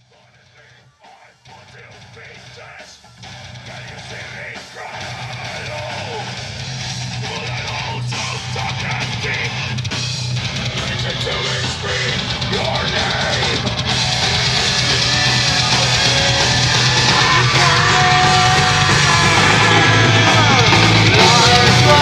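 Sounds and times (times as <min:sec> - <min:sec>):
heavy rock music with singing: 0:00.0 - 0:22.0.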